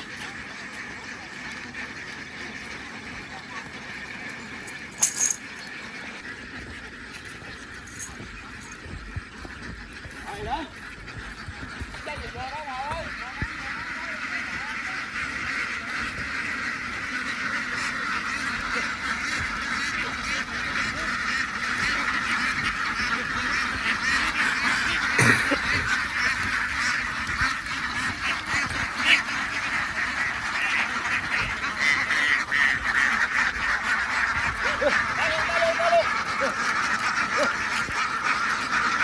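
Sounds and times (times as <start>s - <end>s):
flock of ducks quacking: 0.0s - 39.0s.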